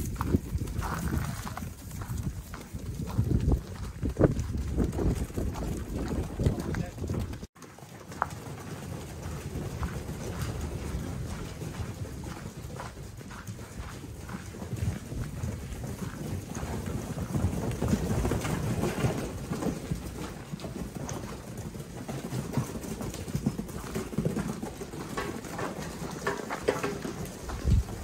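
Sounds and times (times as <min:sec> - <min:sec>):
sheep hoof steps and shuffling: 0:00.0 - 0:28.0.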